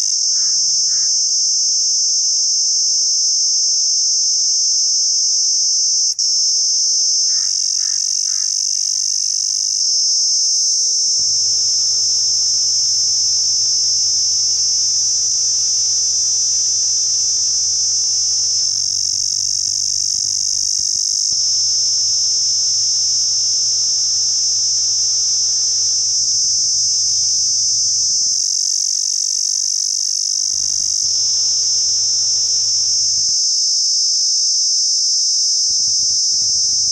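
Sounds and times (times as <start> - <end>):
cicada buzzing: 0.0 - 36.9.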